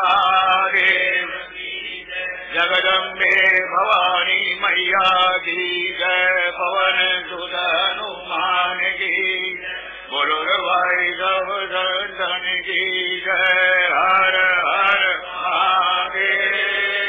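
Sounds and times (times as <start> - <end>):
voices chanting a hymn: 0.0 - 17.0.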